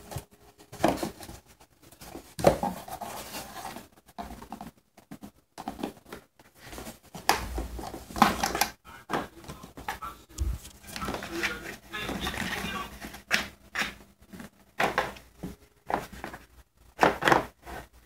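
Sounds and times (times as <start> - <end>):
cardboard box rustling: 0.0 - 8.6, 10.6 - 18.0.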